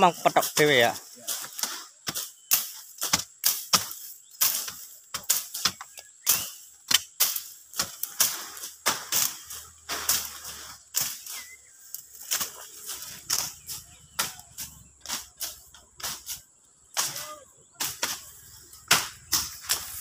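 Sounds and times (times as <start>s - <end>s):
rustle of leaves: 0.0s - 20.0s
blade slashing through brush: 1.3s - 16.4s, 17.0s - 20.0s.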